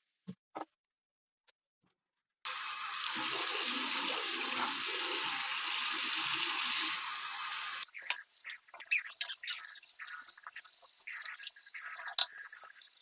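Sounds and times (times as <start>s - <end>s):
tap water running into basin: 2.5s - 13.0s.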